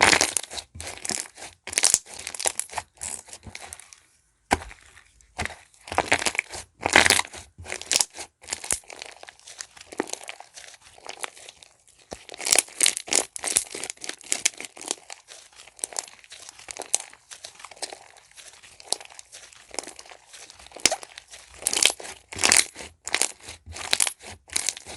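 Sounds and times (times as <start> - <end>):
slime squished by hand: 0.0 - 24.9.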